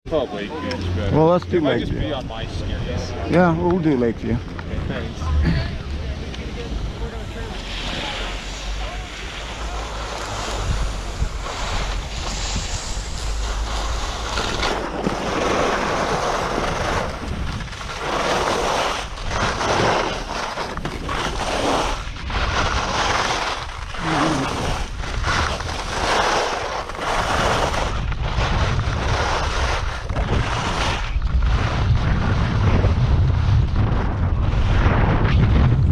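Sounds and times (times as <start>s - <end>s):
skis scraping on snow: 0.1s - 35.8s
wind noise on microphone: 0.8s - 35.9s.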